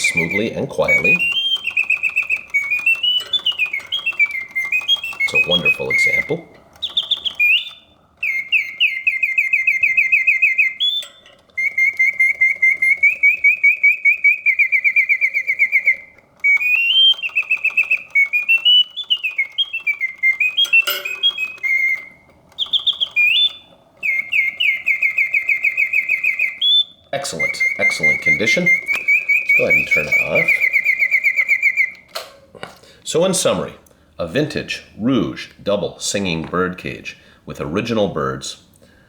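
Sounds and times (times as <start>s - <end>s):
mechanical bird whistling trills: 0.0s - 32.3s
mechanism running quietly: 0.0s - 38.3s.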